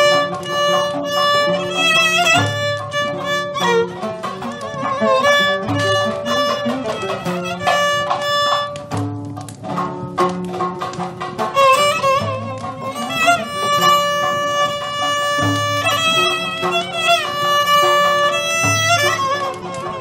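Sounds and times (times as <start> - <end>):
plucked lutes: 0.0 - 20.0
violin melody with vibrato: 0.0 - 20.0.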